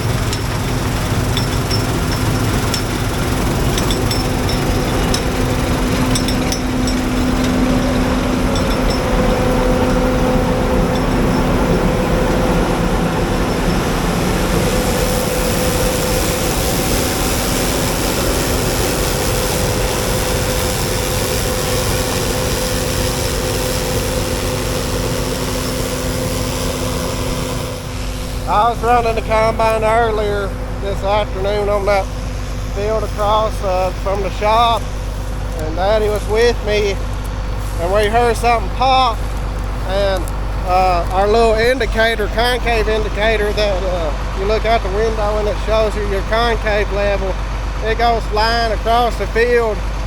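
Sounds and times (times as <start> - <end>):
combine harvester hum: 0.0 - 50.0.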